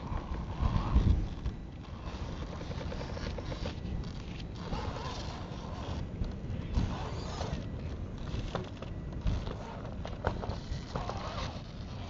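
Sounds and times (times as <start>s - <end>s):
electric motor and gears whirring: 0.0s - 12.0s
wind rumbling on microphone: 0.0s - 12.0s.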